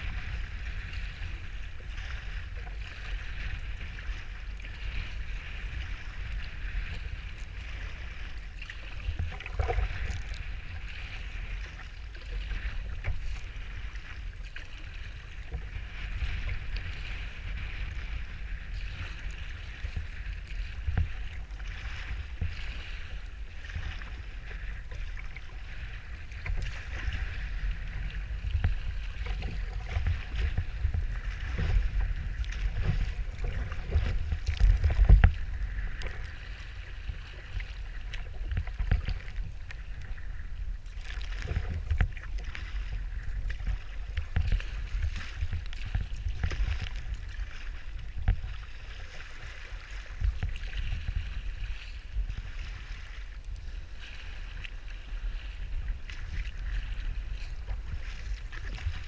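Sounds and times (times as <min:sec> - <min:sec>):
water splashing against kayak hull: 0:00.0 - 0:59.0
wind buffeting microphone: 0:00.0 - 0:59.0.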